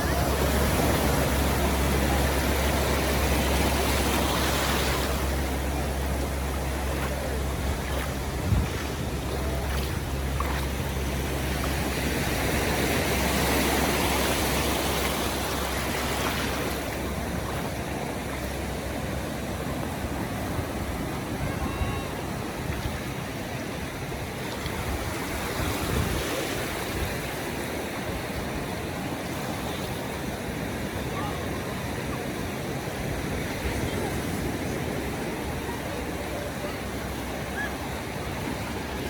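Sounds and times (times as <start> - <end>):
ocean waves washing onto beach: 0.0 - 39.0.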